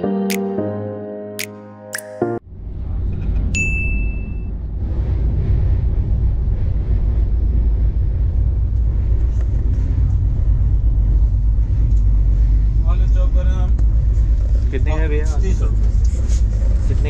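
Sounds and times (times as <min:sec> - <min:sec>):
train coach rumble: 0:02.5 - 0:17.0.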